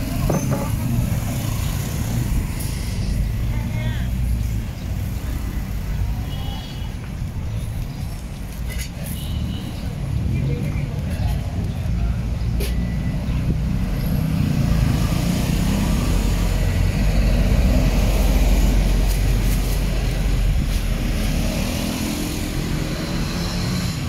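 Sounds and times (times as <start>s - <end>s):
street traffic rumbling: 0.0s - 24.0s.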